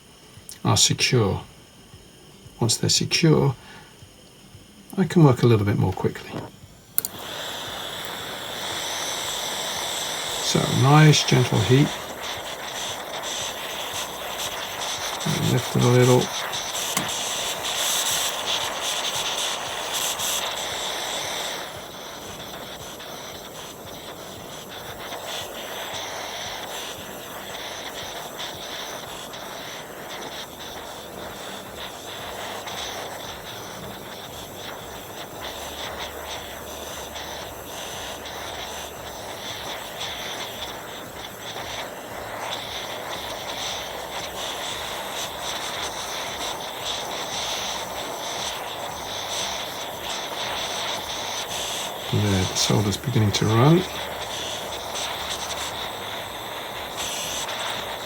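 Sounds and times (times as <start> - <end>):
gas torch flame hissing: 0.0 - 58.0.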